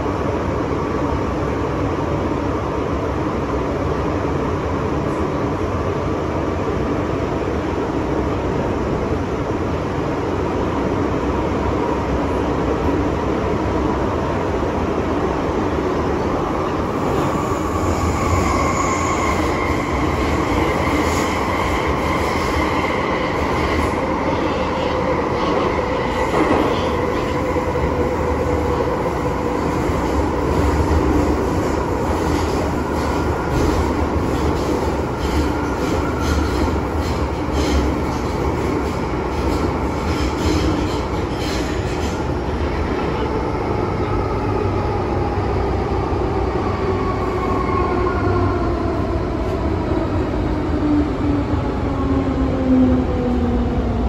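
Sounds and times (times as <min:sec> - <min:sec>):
train carriage rumble: 0:00.0 - 0:54.0.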